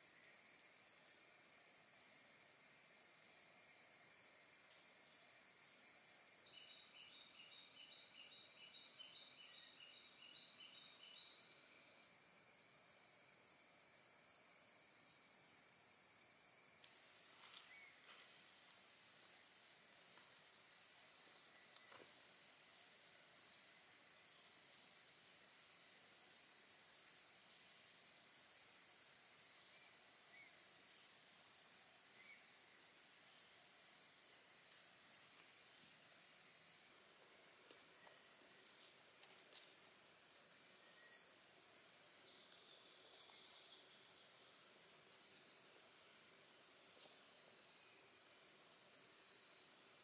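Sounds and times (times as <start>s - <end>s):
high-pitched insect chorus: 0.0s - 50.0s
pulsing insect trill: 5.3s - 50.0s.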